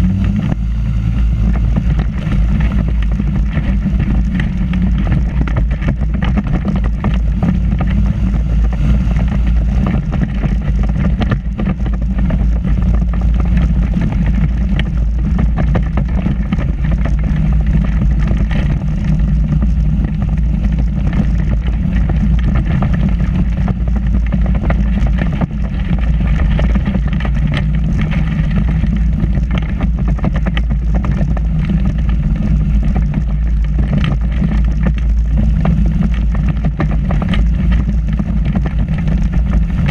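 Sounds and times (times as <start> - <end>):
engine and propeller running: 0.0 - 39.9
wind rumble on microphone: 0.0 - 39.9.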